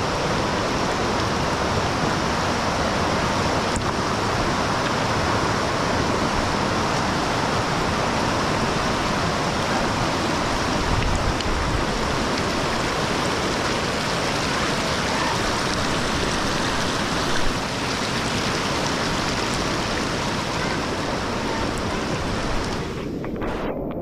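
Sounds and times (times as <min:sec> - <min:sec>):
loud rush of water: 0:00.0 - 0:23.9.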